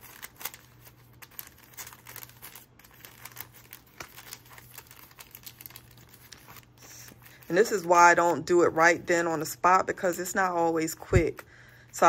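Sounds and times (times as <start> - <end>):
paper receipts crinkling: 0.0 - 12.0.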